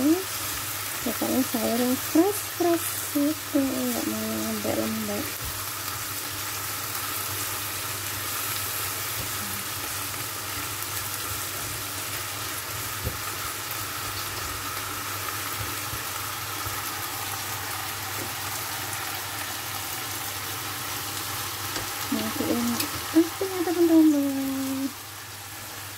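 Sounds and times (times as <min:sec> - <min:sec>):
vegetables sizzling in wok: 0:00.0 - 0:25.9.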